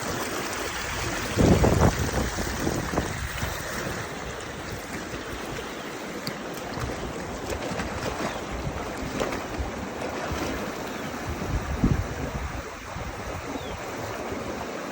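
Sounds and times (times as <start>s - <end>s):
moving water: 0.0s - 14.9s
wind buffeting microphone: 0.1s - 14.9s.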